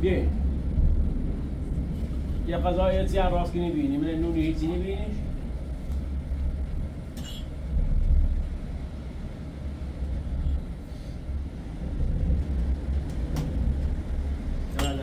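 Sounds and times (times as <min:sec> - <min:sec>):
gusty wind rumble: 0:00.0 - 0:15.0.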